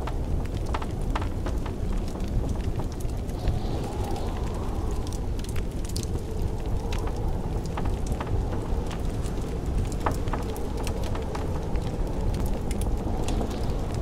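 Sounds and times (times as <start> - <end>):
blizzard wind rushing: 0.0 - 14.0
wood fire crackling: 0.0 - 14.0.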